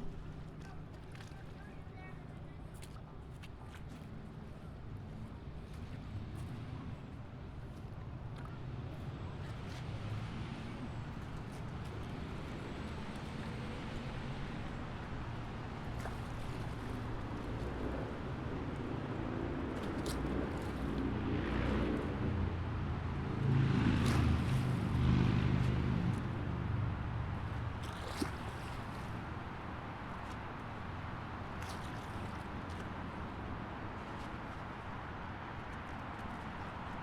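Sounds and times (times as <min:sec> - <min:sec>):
highway traffic rumble: 0:05.4 - 0:37.0.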